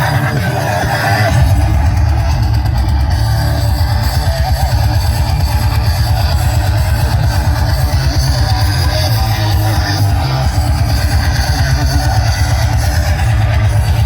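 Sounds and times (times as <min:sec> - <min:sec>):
guitar music with heavy bass: 0:00.0 - 0:14.0.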